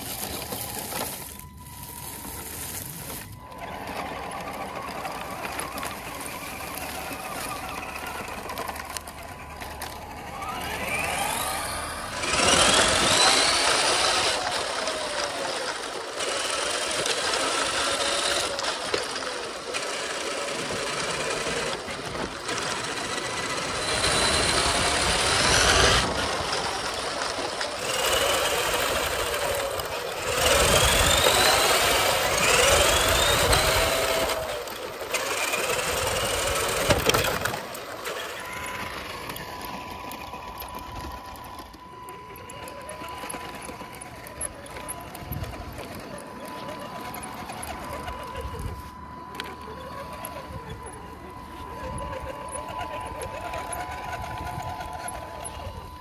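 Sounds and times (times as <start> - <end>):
rc truck motor whining: 0.0 - 56.0.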